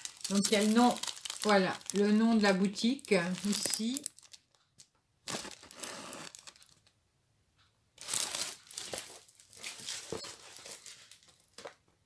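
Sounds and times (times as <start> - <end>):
plastic wrapping crinkling: 0.0 - 6.9, 8.0 - 11.8.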